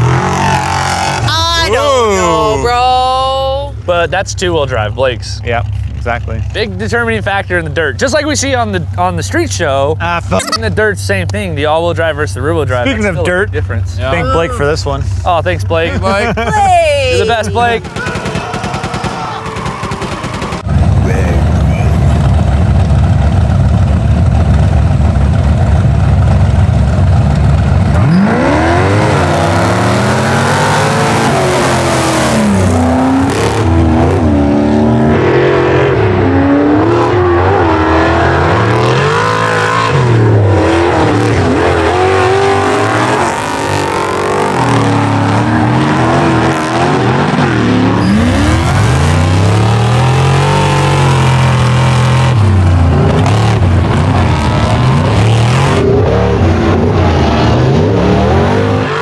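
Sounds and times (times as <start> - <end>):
race vehicle engines revving: 0.0 - 59.0.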